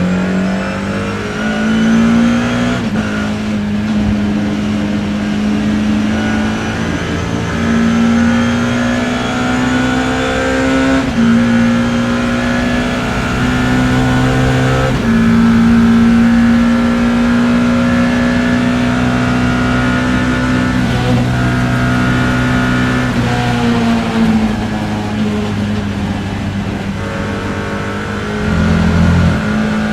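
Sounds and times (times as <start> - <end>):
racing engine accelerating: 0.0 - 29.9.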